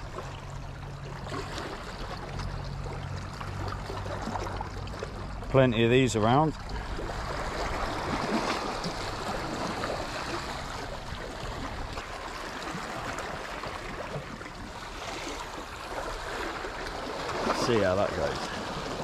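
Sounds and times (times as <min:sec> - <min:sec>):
sea water lapping against rocks: 0:00.0 - 0:19.0.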